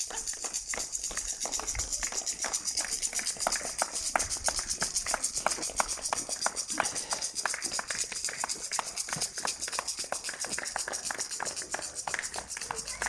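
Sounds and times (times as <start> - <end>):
distant hand clapping: 0.0 - 13.0.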